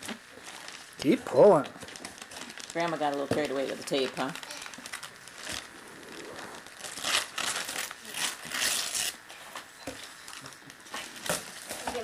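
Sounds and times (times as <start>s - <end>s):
wrapping paper tearing and crumpling: 0.0s - 12.0s.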